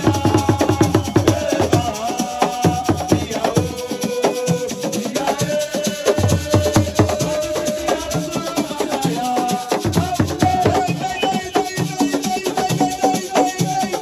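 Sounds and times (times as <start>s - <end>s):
hand drumming: 0.0s - 14.0s
shakers rattling: 0.0s - 14.0s.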